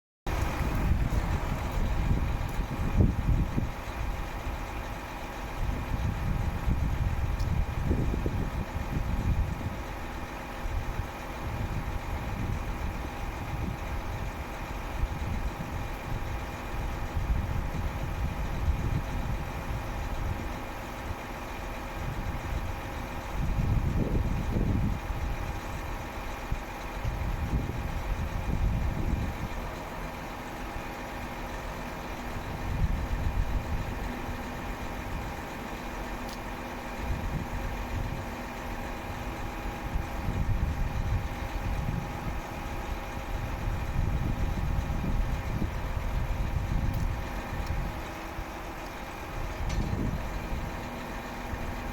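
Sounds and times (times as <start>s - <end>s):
truck diesel engine idling: 0.3s - 51.9s.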